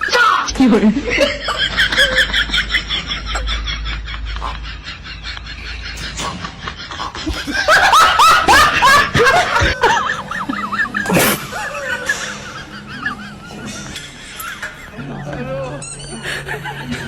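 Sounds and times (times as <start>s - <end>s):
high-pitched squealing laughter: 0.0s - 17.0s.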